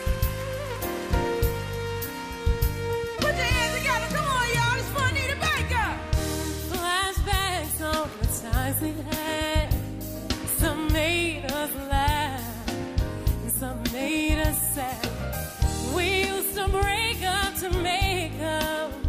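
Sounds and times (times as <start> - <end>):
bass: 0.0 - 19.0
drums: 0.0 - 19.0
soul band playing: 0.0 - 19.0
woman singing: 3.2 - 19.0.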